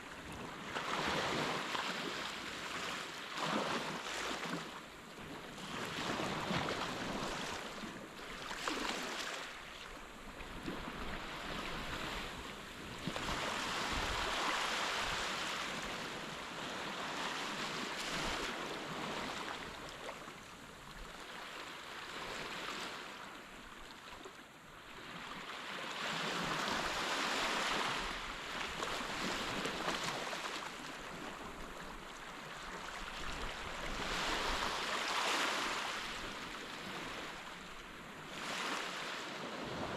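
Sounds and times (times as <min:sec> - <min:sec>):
waves washing onto sandy beach: 0:00.0 - 0:24.0, 0:24.9 - 0:39.9.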